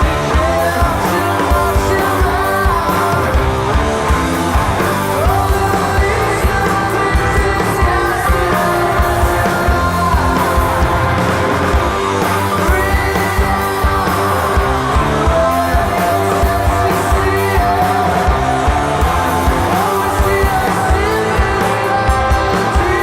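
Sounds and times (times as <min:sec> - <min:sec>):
person singing: 0:00.0 - 0:23.0
rock band playing live: 0:00.0 - 0:23.0.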